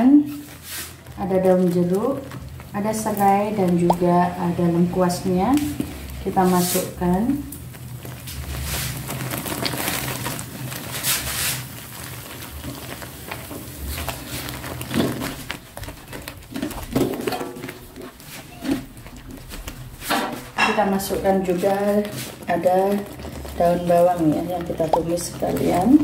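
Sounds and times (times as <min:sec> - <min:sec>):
paste sizzling: 0:00.2 - 0:26.0.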